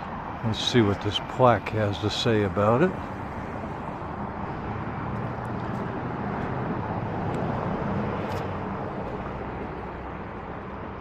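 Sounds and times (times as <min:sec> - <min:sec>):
passing vehicle rush: 0:00.0 - 0:11.0.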